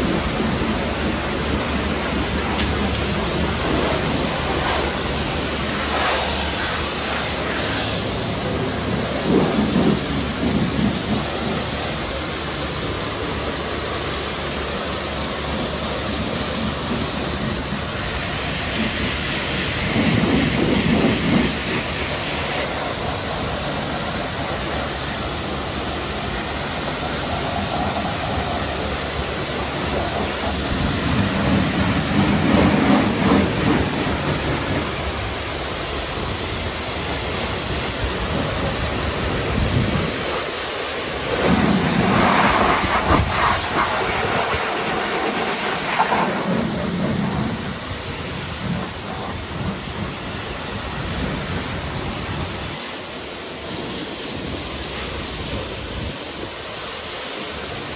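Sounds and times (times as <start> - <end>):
water spray hissing on car: 0.0 - 57.9.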